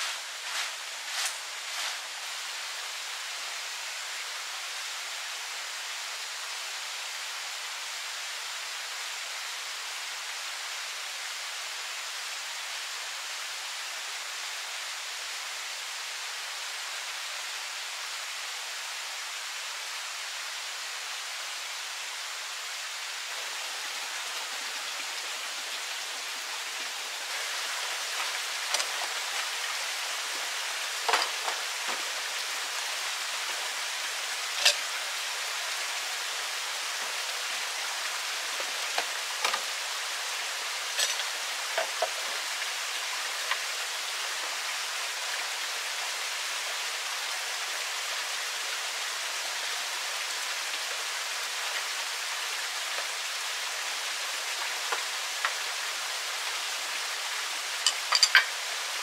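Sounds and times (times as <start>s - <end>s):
flowing stream water: 0.0s - 59.0s.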